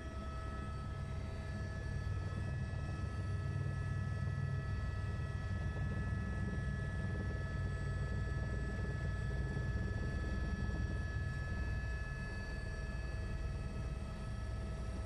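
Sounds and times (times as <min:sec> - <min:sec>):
helicopter rotor and engine rumble: 0:00.0 - 0:15.0
high turbine whine: 0:00.0 - 0:15.0.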